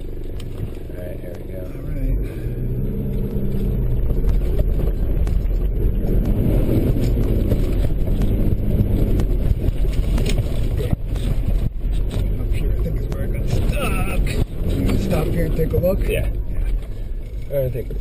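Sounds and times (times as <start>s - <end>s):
vehicle engine deep rumble: 0.0s - 18.0s.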